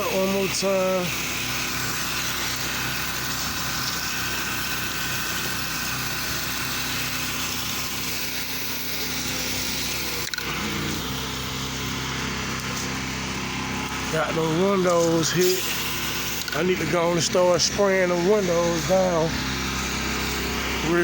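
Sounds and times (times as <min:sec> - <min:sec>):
small gas engine running: 0:00.0 - 0:21.0.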